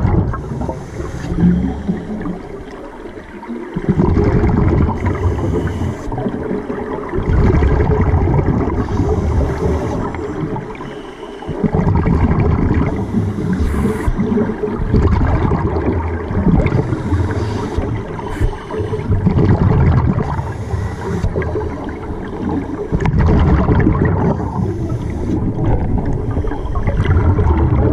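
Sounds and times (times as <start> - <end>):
underwater air bubbles gurgling: 0.0 - 27.9.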